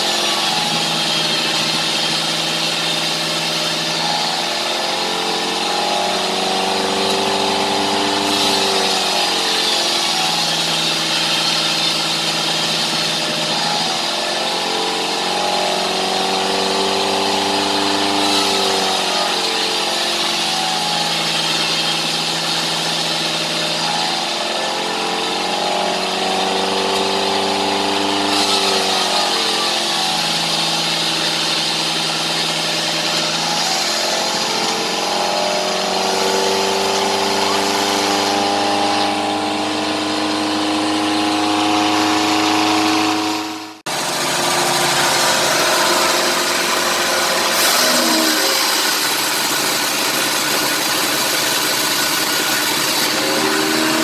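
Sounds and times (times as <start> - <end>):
band sawmill running: 0.0 - 54.0
hissing saw cutting wood: 0.0 - 54.0.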